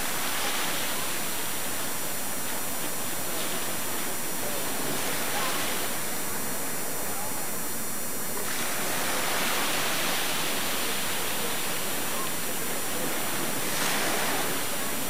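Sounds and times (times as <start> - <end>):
sea water rushing: 0.0 - 6.2, 8.4 - 15.0
wind: 0.0 - 15.0.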